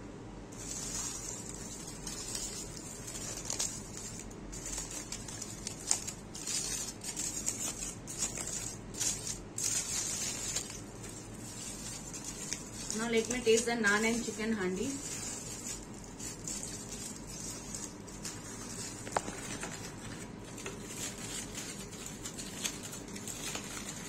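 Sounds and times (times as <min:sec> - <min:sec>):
aluminium foil crinkling: 0:00.6 - 0:24.0.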